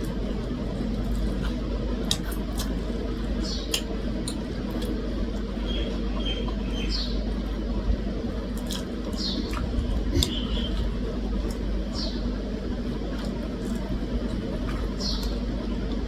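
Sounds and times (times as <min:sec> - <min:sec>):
person chewing: 0:00.0 - 0:05.5, 0:08.4 - 0:16.0
steady low hum: 0:00.0 - 0:16.0.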